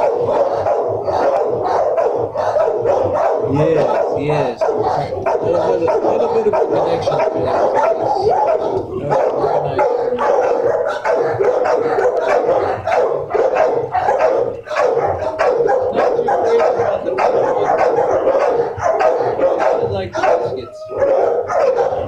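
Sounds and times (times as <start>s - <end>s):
many dogs barking: 0.0s - 22.0s.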